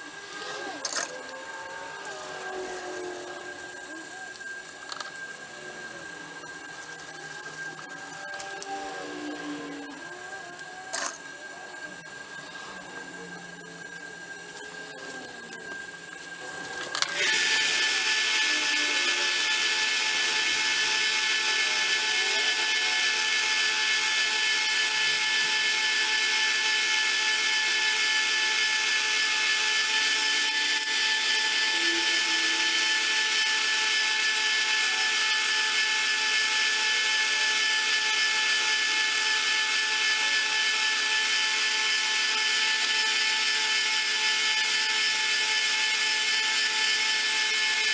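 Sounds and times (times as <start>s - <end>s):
power tool motor running: 0.0s - 47.9s.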